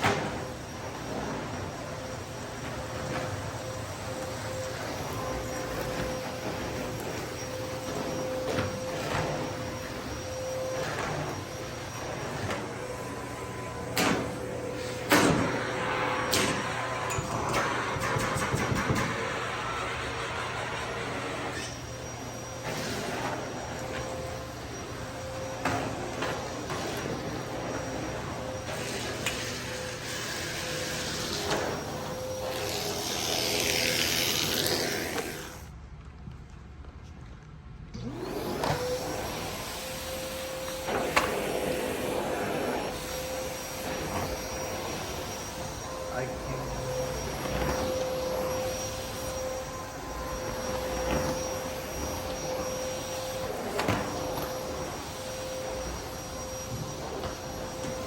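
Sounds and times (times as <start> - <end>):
vacuum cleaner running: 0.0 - 35.8, 37.9 - 58.0.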